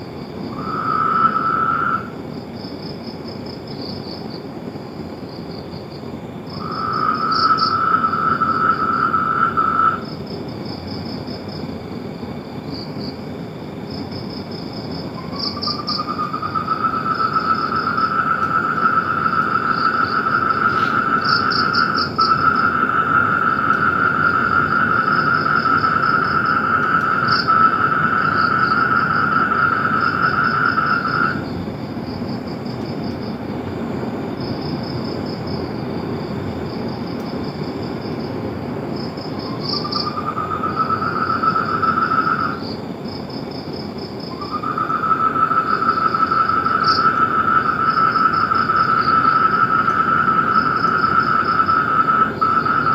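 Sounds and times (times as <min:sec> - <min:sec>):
insect high-pitched drone: 0:00.0 - 0:52.9
fast rhythmic insect chirps: 0:05.3 - 0:33.4, 0:34.4 - 0:52.9.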